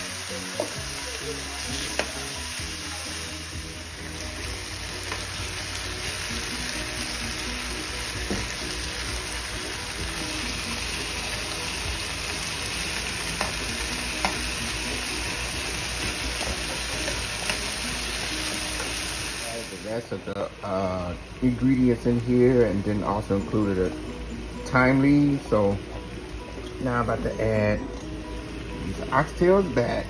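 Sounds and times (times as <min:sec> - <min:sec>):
meat sizzling in hot oil: 0:00.0 - 0:30.0.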